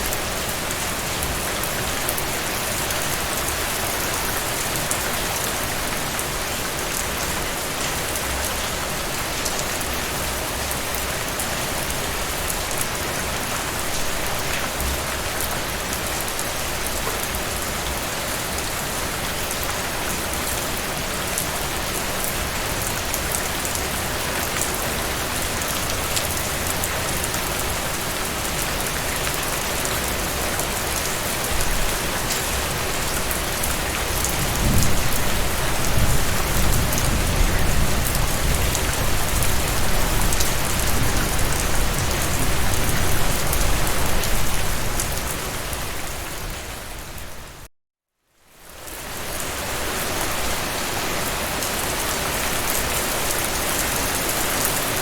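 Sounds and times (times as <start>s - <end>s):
rain falling on a surface: 0.0s - 47.7s, 48.4s - 55.0s.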